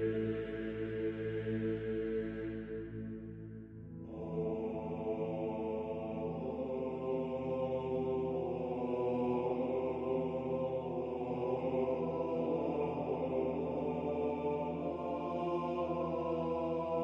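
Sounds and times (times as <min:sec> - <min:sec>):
droning chant-like music: 0:00.0 - 0:17.0.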